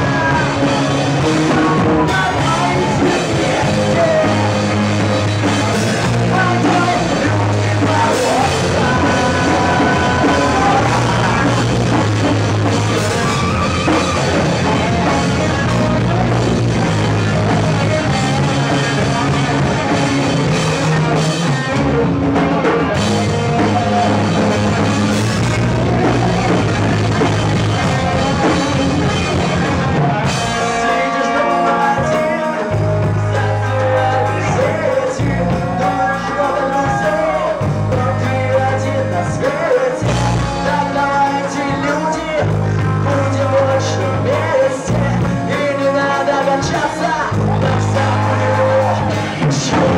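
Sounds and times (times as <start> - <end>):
bass guitar: 0.0 - 49.9
drum kit: 0.0 - 49.9
person singing: 0.0 - 49.9.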